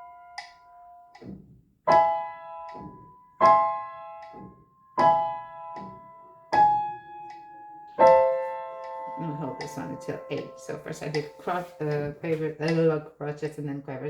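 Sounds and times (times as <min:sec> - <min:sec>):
slow legato piano melody: 0:00.0 - 0:12.2.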